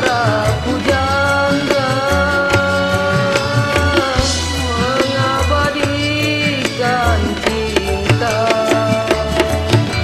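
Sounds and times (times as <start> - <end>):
karaoke backing music with beat: 0.0 - 10.0.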